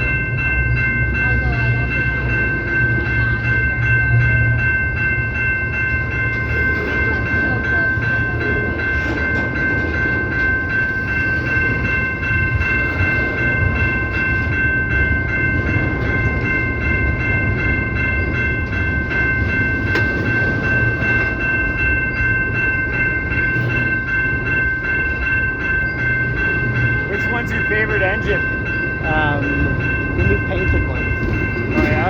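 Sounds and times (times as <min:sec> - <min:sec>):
freight train rumbling past: 0:00.0 - 0:32.0
train wheel clatter: 0:05.1 - 0:32.0.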